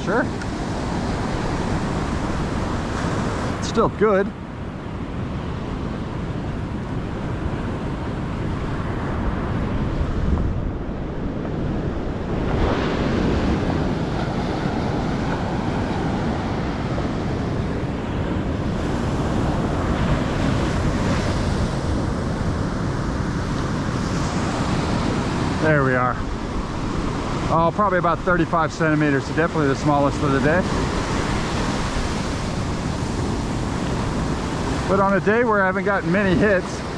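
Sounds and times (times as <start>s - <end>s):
heavy surf breaking: 0.0s - 36.9s
wind buffeting microphone: 0.0s - 36.9s.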